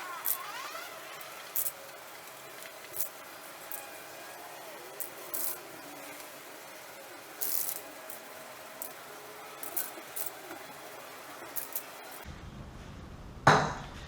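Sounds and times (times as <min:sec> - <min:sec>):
spray paint hissing: 0:00.0 - 0:12.3.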